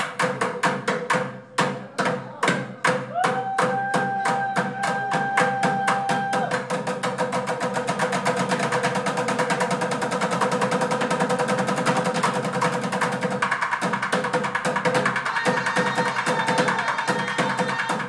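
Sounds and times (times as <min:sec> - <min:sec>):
fast bucket drumming: 0:00.0 - 0:18.0.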